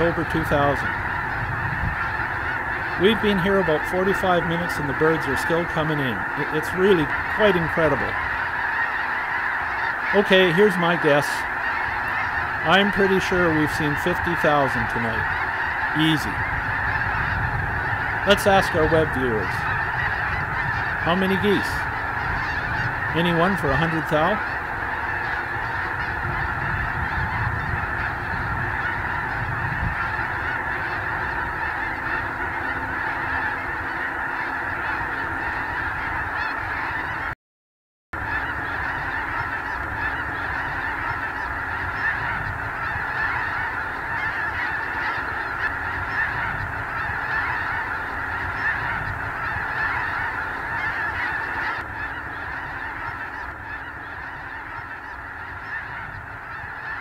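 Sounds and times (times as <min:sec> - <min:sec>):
geese honking: 0:00.0 - 0:37.4, 0:38.2 - 0:57.0.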